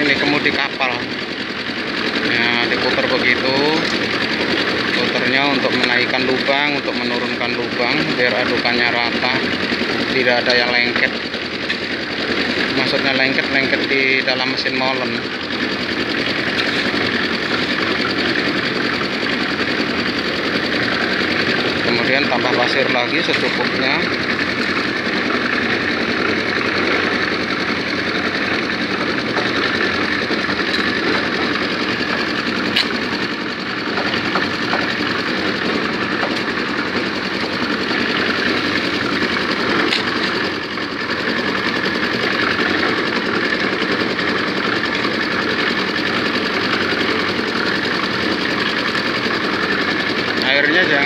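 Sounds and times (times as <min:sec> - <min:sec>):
concrete mixer drum churning: 0:00.0 - 0:51.0.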